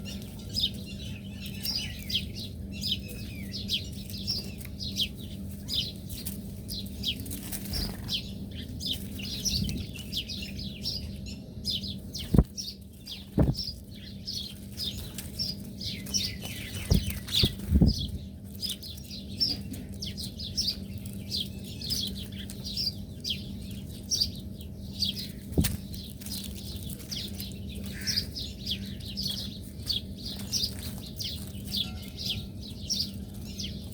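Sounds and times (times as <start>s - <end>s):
flock of small birds chirping: 0.0s - 33.9s
steady low hum: 0.0s - 33.9s.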